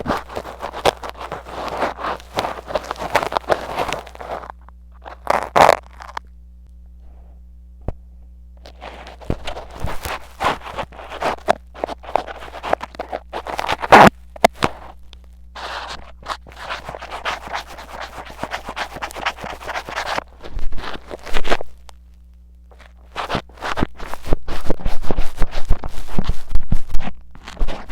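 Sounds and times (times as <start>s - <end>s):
metal tweezers scratching microphone: 0.0s - 6.1s, 8.6s - 15.0s, 15.6s - 21.6s, 22.7s - 27.9s
ear pick scraping sticky earwax: 0.0s - 6.3s, 8.6s - 22.0s, 22.7s - 27.9s.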